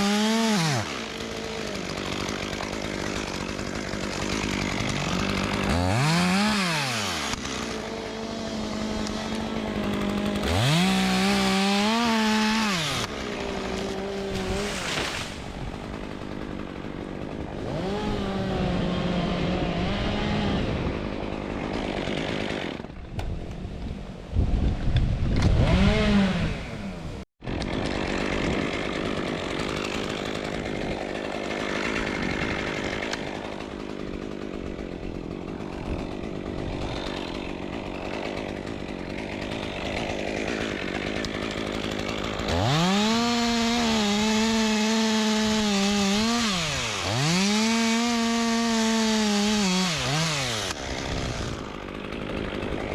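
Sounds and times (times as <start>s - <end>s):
chainsaw revving and cutting: 0.0s - 23.0s, 25.4s - 52.9s.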